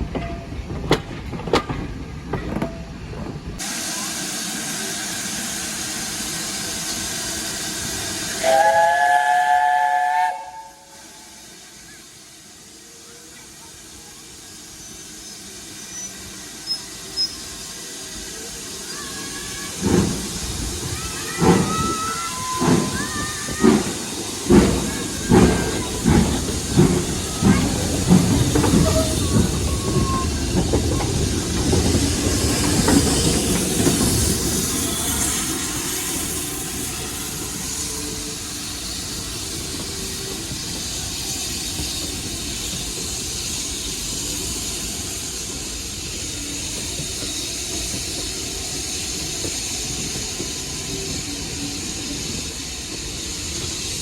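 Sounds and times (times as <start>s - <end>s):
train running noise: 0.0s - 54.0s
steam locomotive exhaust beats: 3.0s - 54.0s.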